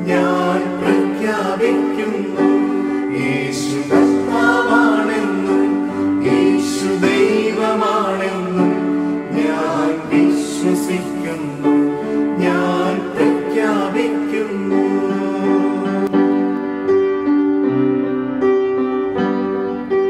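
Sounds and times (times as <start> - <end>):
voices singing worship song: 0.0 - 16.5.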